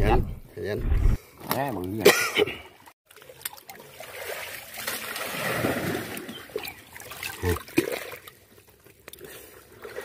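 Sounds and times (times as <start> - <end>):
water splashing and sloshing: 1.2 - 10.0.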